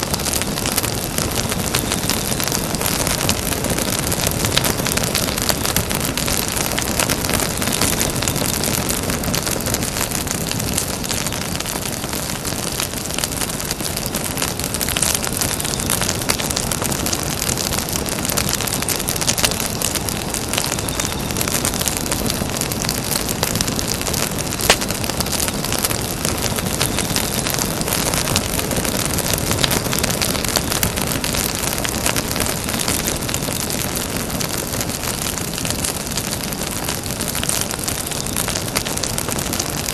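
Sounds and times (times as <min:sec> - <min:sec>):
campfire crackling and hissing: 0:00.0 - 0:39.9
sharp pop of burning wood: 0:00.0 - 0:39.9.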